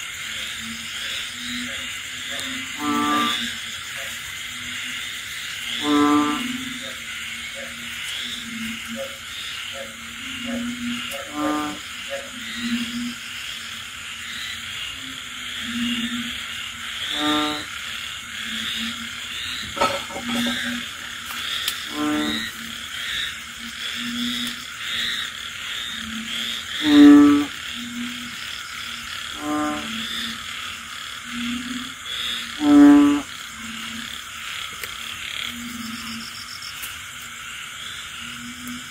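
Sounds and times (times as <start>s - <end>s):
frogs croaking: 0.0s - 38.9s
high chirping of insects: 0.0s - 38.9s
frog bleating calls: 0.2s - 36.7s.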